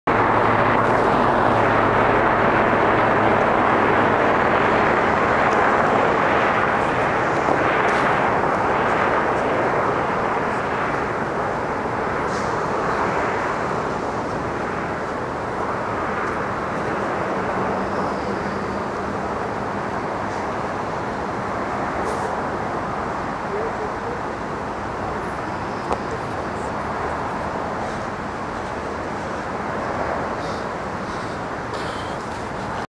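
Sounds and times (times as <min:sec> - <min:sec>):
distant road traffic hum: 0:00.1 - 0:32.9
loud outdoor roar: 0:00.1 - 0:32.9.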